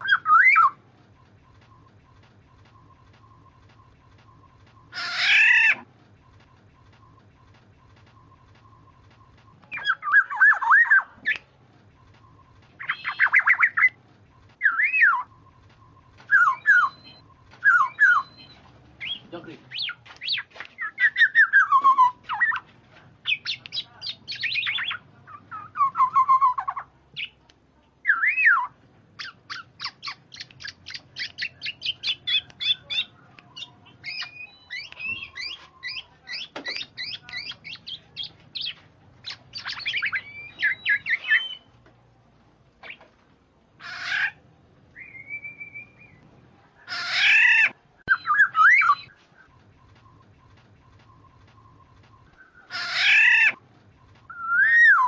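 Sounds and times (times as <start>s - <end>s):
oriole whistles and chattering: 0.0s - 27.4s, 28.0s - 41.7s, 45.0s - 46.2s, 47.2s - 55.0s
harsh rasping bird calls: 1.5s - 7.2s, 7.8s - 14.0s, 14.6s - 27.4s, 28.0s - 41.7s, 43.8s - 44.4s, 46.8s - 55.0s.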